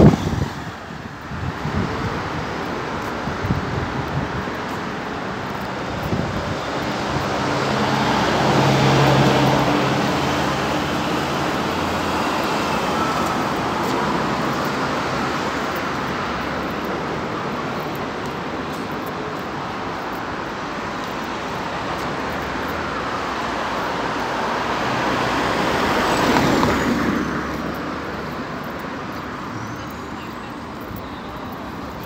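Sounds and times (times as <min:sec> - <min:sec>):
traffic hum: 0:00.0 - 0:32.0.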